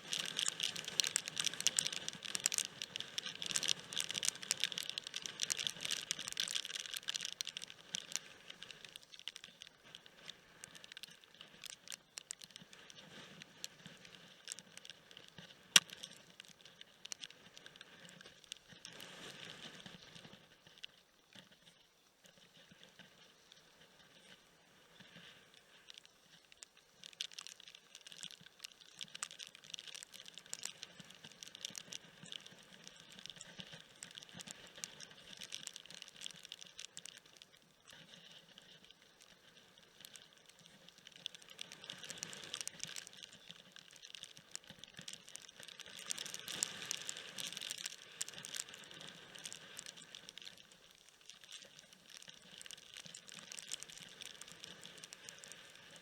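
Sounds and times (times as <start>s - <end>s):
rain pattering: 0.0s - 21.0s, 23.4s - 56.0s.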